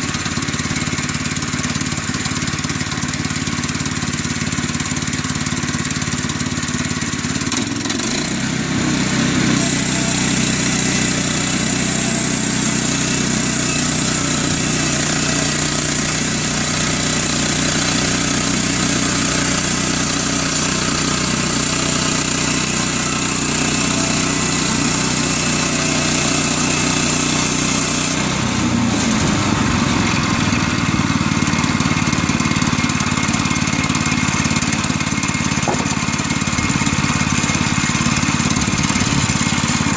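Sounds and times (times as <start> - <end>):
gasoline engine revving: 7.4 - 39.9.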